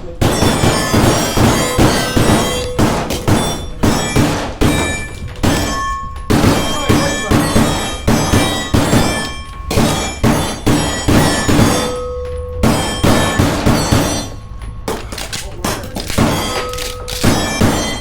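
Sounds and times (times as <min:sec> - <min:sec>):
gunshots with ringing: 0:00.0 - 0:18.0.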